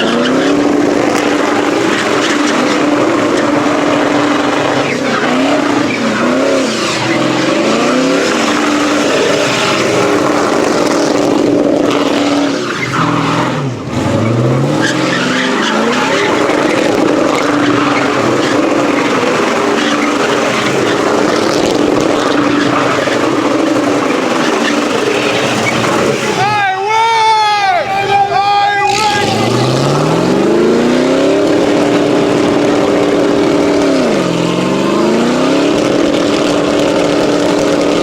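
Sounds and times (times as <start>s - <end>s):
truck engine revving: 0.0s - 26.6s, 28.6s - 38.0s
tires spinning and squealing: 0.0s - 38.0s.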